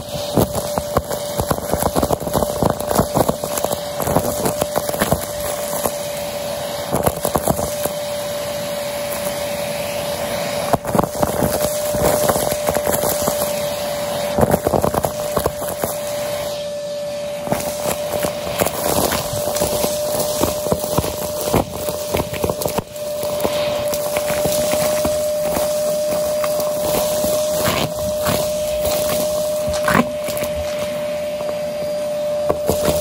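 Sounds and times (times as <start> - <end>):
debris crackling in vacuum hose: 0.0 - 33.0
vacuum cleaner whine: 0.0 - 33.0.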